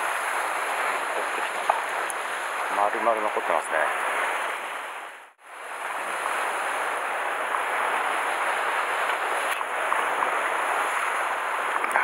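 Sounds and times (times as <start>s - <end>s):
surf washing against rocks: 0.0s - 12.0s.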